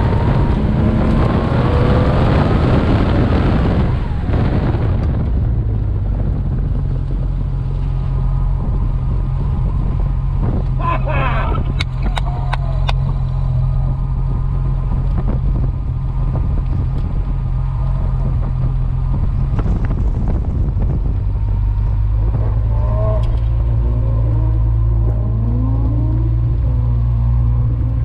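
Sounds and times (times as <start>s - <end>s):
car engine low drone: 0.0s - 28.0s.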